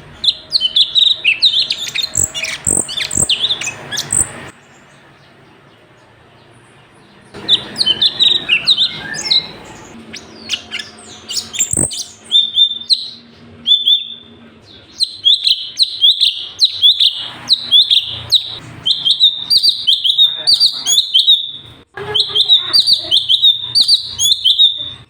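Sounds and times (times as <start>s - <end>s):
bird singing sharp chirps: 0.0s - 5.4s, 7.1s - 25.0s.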